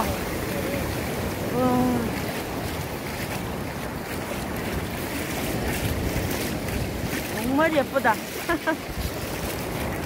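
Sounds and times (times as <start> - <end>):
sea waves washing over shore: 0.0 - 10.0
wind buffeting microphone: 0.0 - 10.0.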